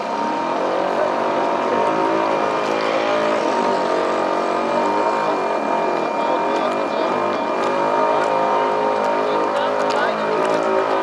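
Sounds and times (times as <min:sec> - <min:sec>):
model boat motor running: 0:00.0 - 0:11.0
water rushing along hull: 0:00.0 - 0:11.0.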